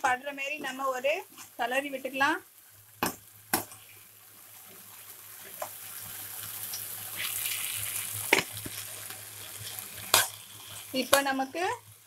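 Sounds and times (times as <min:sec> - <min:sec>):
gravy sizzling in a wok: 0:00.0 - 0:12.0.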